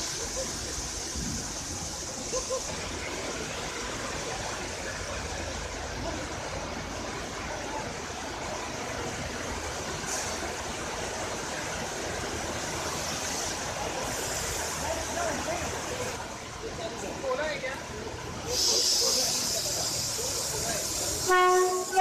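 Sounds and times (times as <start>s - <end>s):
locomotive rolling slowly: 0.0s - 22.0s.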